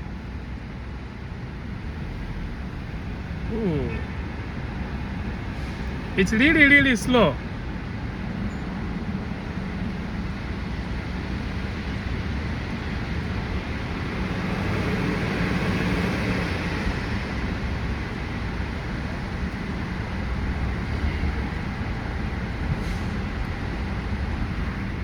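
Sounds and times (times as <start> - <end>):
low engine and road hum: 0.0 - 25.0
tunnel traffic noise: 0.0 - 25.0.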